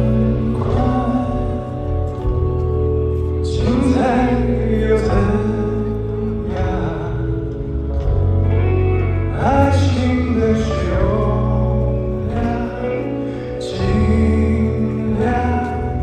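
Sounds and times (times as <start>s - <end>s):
man singing: 0.0s - 8.1s, 9.2s - 16.0s
live pop band with heavy bass: 0.0s - 16.0s.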